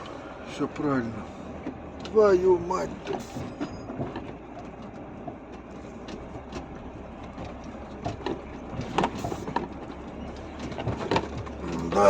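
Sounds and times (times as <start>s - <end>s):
cab and load rattling: 0.0s - 12.0s
truck engine humming: 0.0s - 12.0s.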